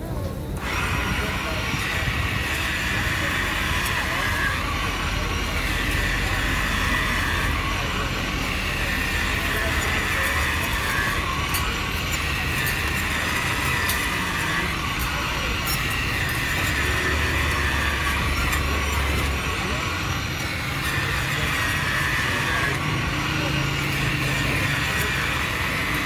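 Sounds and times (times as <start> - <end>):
faint voices: 0.0 - 26.0
traffic running: 0.0 - 26.0.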